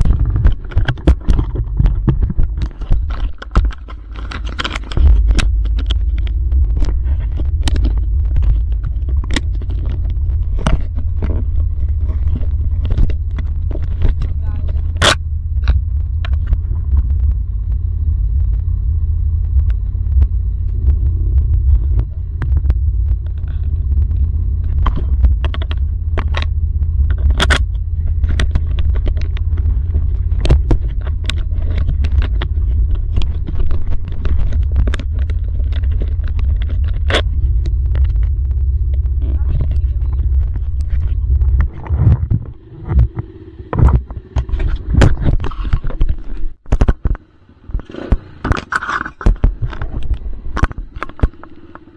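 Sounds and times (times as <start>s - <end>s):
sharp knocks and clicks: 0.0s - 17.8s, 19.6s - 47.2s
dirt bike engine rumbling: 0.0s - 51.9s
irregular thumps: 0.0s - 51.9s.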